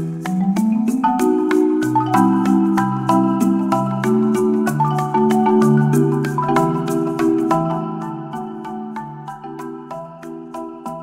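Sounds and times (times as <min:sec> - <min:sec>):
light tune with bass and beat: 0:00.0 - 0:11.0.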